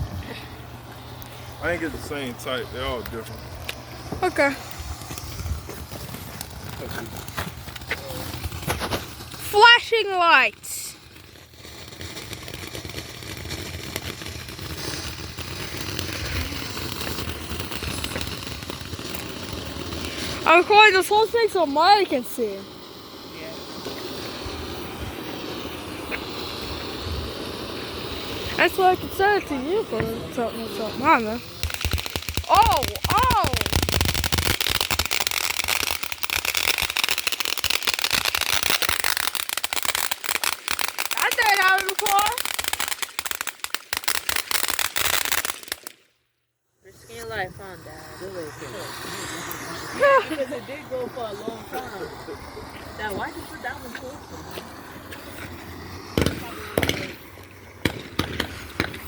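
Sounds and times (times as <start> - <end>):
ground firework hissing and crackling: 0.0 - 59.0.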